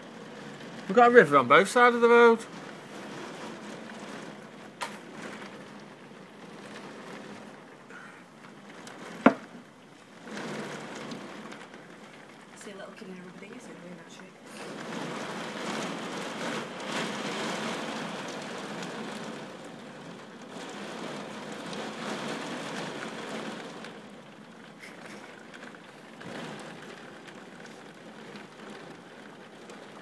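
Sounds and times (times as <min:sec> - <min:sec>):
torrential rain on a street: 0:00.0 - 0:30.0.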